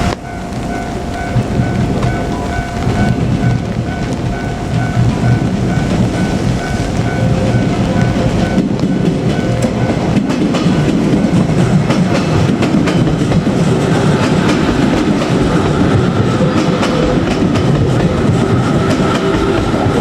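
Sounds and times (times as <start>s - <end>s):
electric train passing: 0.0s - 20.0s
wheels clicking over rail joints: 0.0s - 20.0s.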